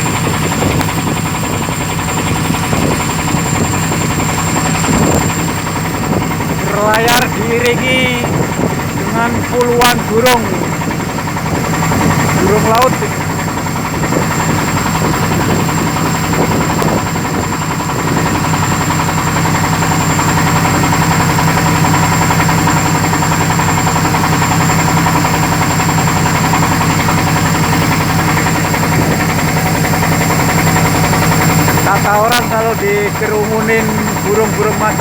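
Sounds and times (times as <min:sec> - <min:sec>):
boat engine running: 0:00.0 - 0:35.0
high whine: 0:00.0 - 0:35.0.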